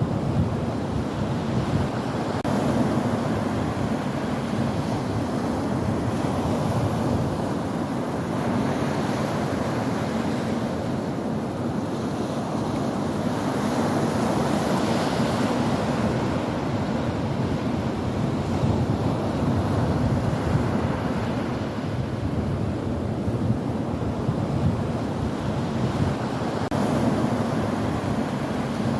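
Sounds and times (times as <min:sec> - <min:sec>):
sea waves washing onto shore: 0:00.0 - 0:28.9.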